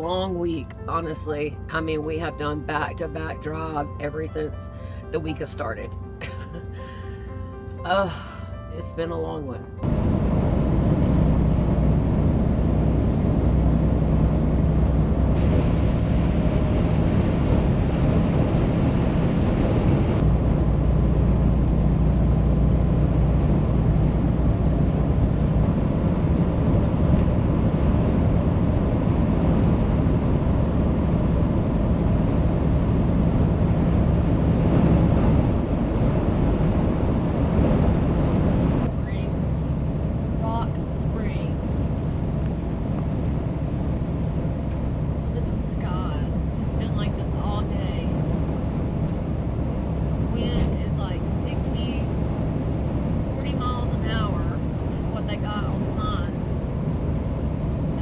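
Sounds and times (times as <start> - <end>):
road and wind noise: 0.0 - 58.0
truck engine drone: 0.0 - 58.0.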